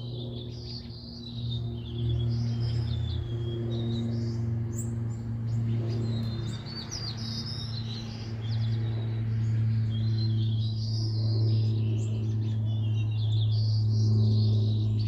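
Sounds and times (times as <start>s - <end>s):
songbirds chirping and trilling: 0.0s - 15.0s
steady low hum: 0.0s - 15.0s.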